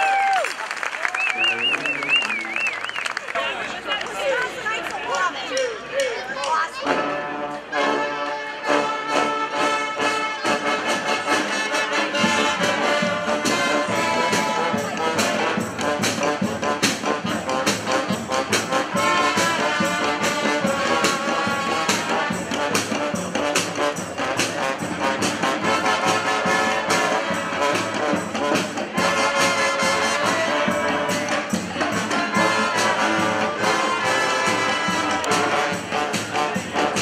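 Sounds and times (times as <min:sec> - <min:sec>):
brass band playing: 0:06.8 - 0:37.0.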